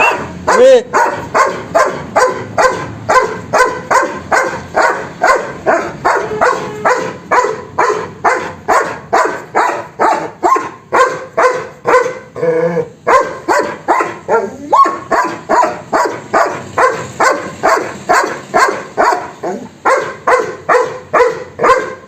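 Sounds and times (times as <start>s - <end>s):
dog barking rapidly: 0.0s - 12.4s, 13.0s - 22.0s.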